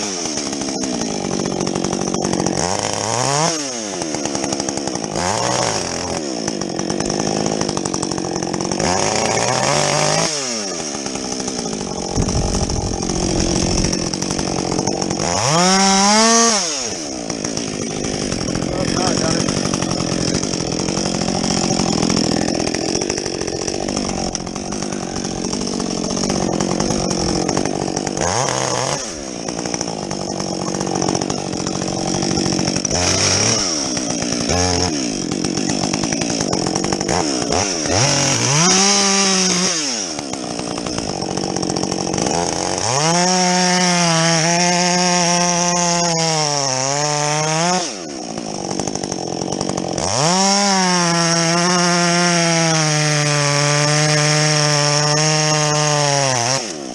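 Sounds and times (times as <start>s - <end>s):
chainsaw cutting logs: 0.0s - 56.9s.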